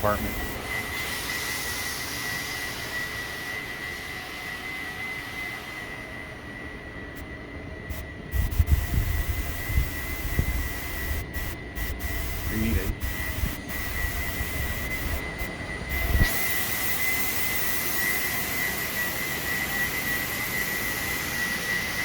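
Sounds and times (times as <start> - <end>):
aircraft turbine whine: 0.0 - 22.0.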